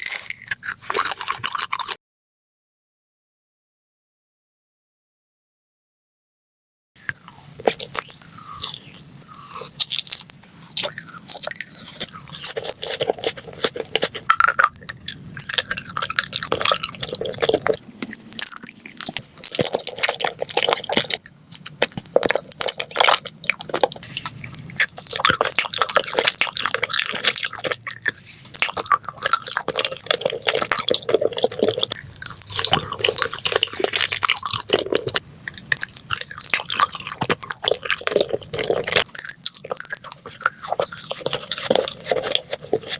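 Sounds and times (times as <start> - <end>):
chewing crunchy food: 0.0 - 2.0, 7.0 - 42.9
wet mouth sounds: 0.0 - 2.0, 7.0 - 42.9.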